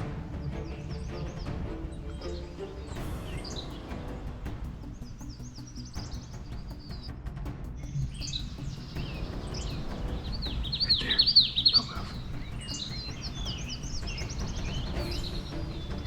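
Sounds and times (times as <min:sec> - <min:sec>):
songbirds singing and chirping: 0:00.0 - 0:16.0.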